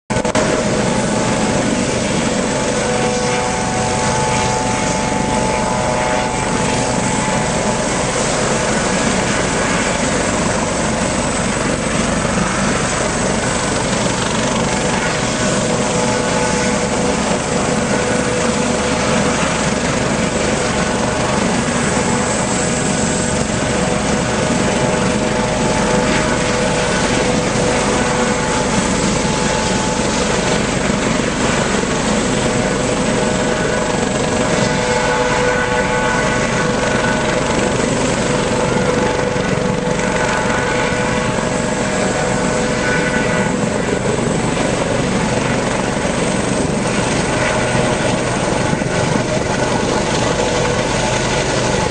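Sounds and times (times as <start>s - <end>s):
constant high whine: 0.1s - 51.9s
helicopter rotor and turbine: 0.1s - 51.9s.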